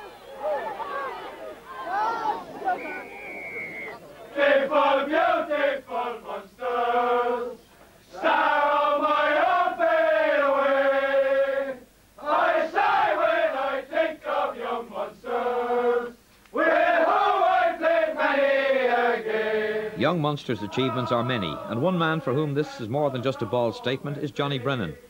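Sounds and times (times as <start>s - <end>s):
men singing together: 4.4s - 25.0s.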